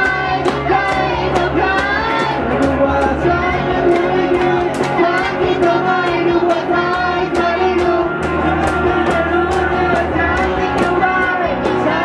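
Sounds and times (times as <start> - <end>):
electric guitar: 0.0 - 12.0
electronic drum pad beat: 0.0 - 12.0
people singing into microphones: 0.0 - 12.0.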